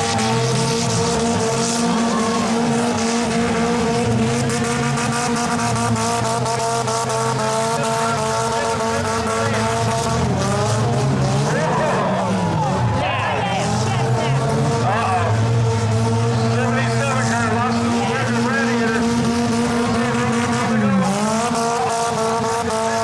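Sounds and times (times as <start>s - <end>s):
race car engines running hard: 0.0s - 23.0s.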